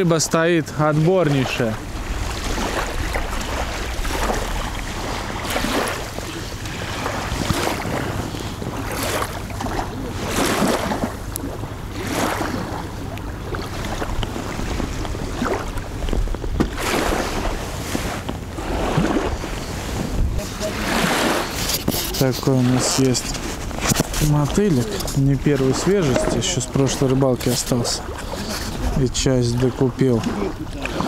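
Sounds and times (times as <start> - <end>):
small waves lapping: 0.0 - 31.0
wind on microphone: 1.3 - 26.7.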